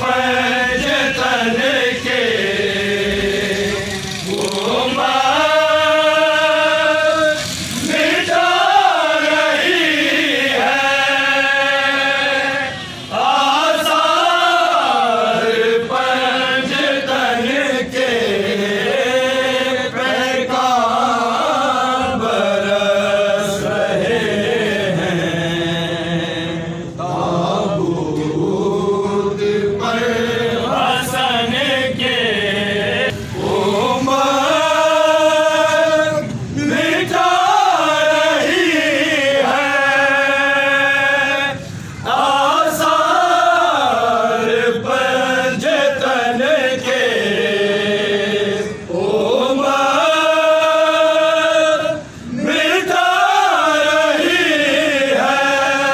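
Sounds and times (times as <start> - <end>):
group of men chanting: 0.0 - 55.9.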